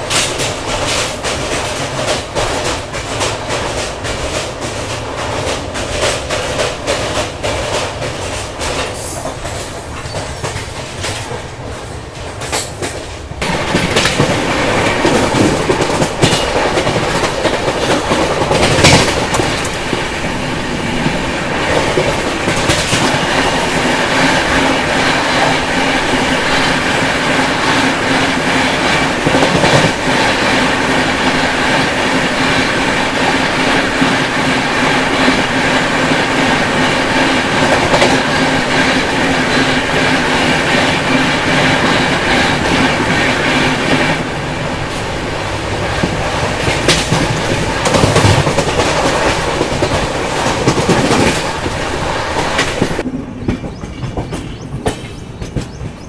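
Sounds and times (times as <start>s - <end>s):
wind rush: 0.0s - 55.3s
goods train passing: 0.0s - 56.0s
wheels clattering over rail joints: 0.0s - 56.0s.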